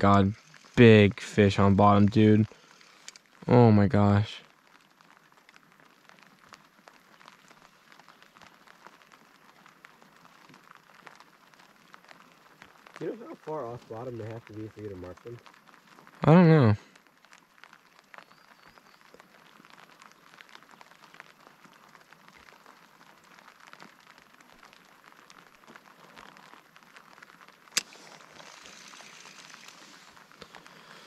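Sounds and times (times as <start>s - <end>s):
light rain on water: 0.0s - 31.0s.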